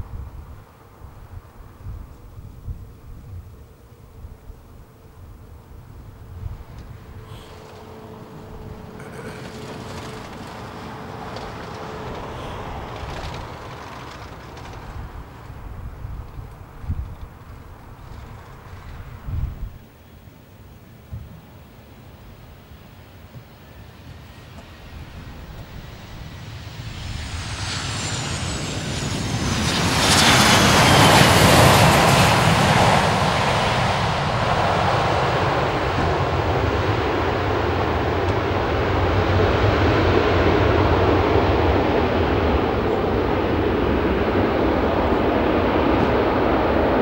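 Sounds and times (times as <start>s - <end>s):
high engine whine falling: 3.4s - 19.8s, 23.3s - 47.0s
jet engine roar: 3.4s - 19.8s, 22.0s - 47.0s.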